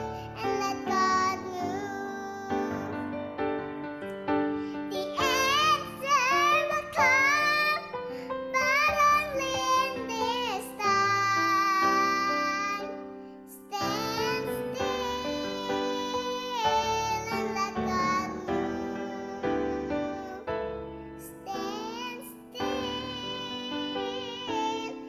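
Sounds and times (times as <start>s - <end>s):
girl singing worship song: 0.0s - 3.4s, 4.6s - 25.0s.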